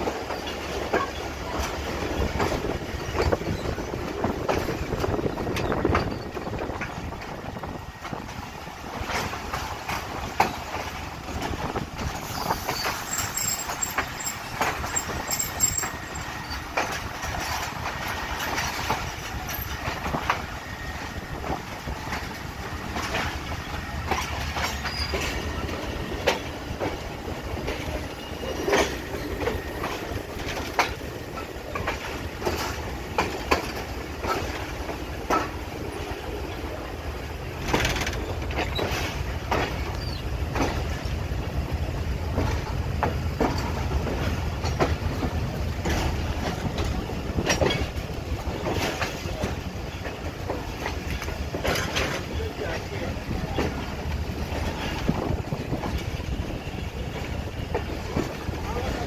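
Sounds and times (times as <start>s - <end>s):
train wheel and rail rumble: 0.0s - 59.0s
wheels clicking over rail joints: 0.0s - 59.0s.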